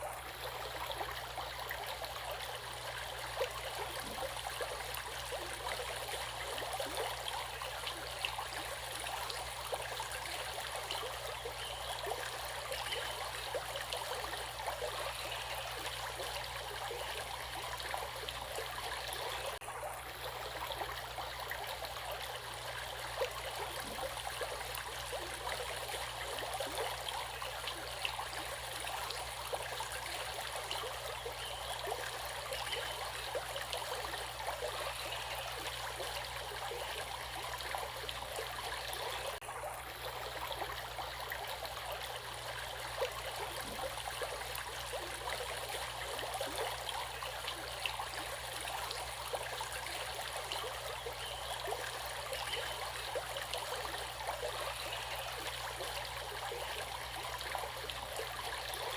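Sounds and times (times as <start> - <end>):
small splashes and trickles: 0.0 - 58.9
stream running: 0.0 - 58.9.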